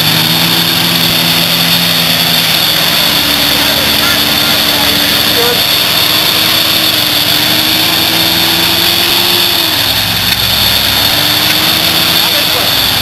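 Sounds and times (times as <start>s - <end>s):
truck engine at low revs: 0.0s - 13.0s.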